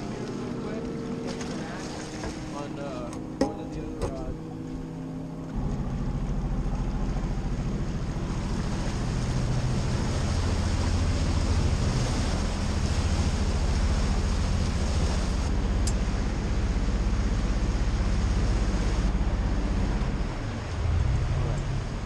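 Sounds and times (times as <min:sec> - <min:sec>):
boat engine droning: 0:00.0 - 0:22.0
churning wake rushing: 0:00.0 - 0:22.0.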